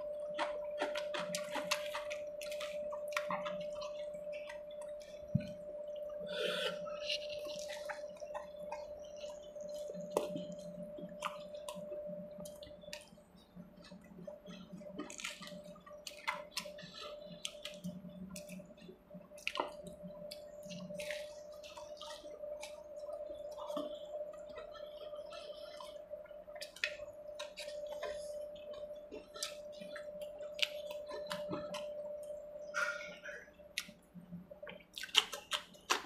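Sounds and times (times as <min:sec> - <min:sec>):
faint hum: 0:00.0 - 0:36.0
wet chewing and lip-smacking: 0:00.0 - 0:36.0.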